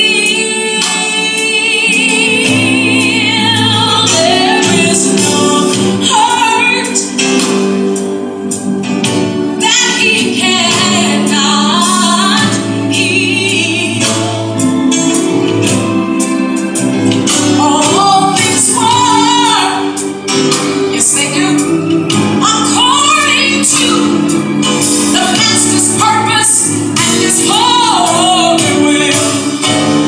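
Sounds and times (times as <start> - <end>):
woman singing gospel: 0.0 - 8.4, 9.5 - 14.9, 17.3 - 29.9.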